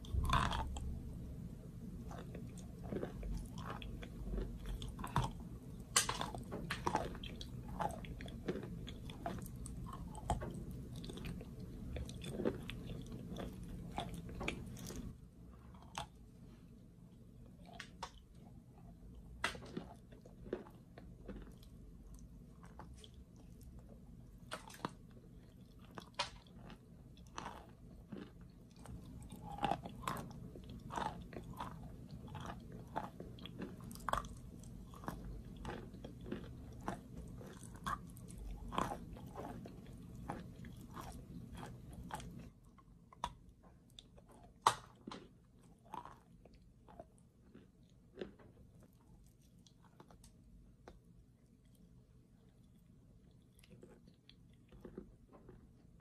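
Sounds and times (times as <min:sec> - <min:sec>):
chewing chalk crunches: 0:00.0 - 0:00.9, 0:02.0 - 0:16.2, 0:17.4 - 0:56.0
soft chewing: 0:00.0 - 0:56.0.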